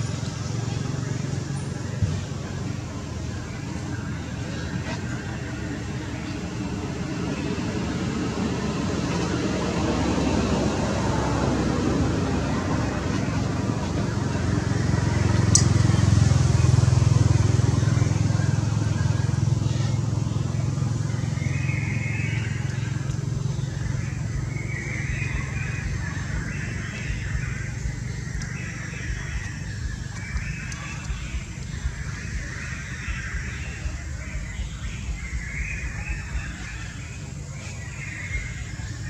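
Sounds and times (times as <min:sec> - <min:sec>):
low vehicle engine hum: 0:00.0 - 0:39.0.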